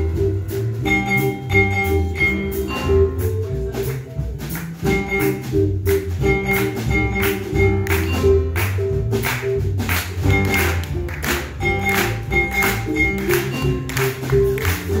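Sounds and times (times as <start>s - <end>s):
saxophones: 0.0s - 4.0s, 4.8s - 15.0s
drum kit: 0.0s - 15.0s
jazz big band playing: 0.0s - 15.0s
mallet instrument: 0.0s - 15.0s
upright bass: 0.0s - 15.0s.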